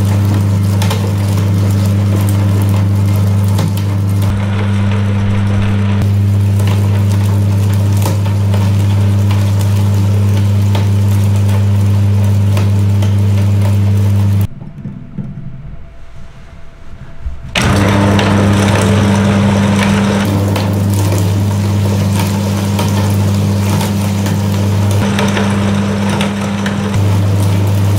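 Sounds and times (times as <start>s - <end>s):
meat grinder motor hum: 0.0s - 14.5s, 17.6s - 27.9s.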